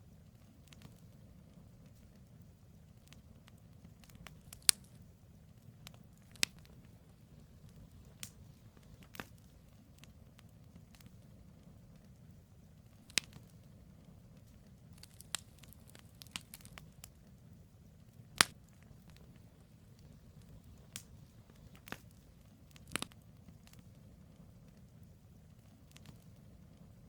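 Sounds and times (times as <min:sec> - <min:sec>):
campfire rumbling: 0:00.0 - 0:27.0
logs popping and crackling: 0:00.2 - 0:27.0.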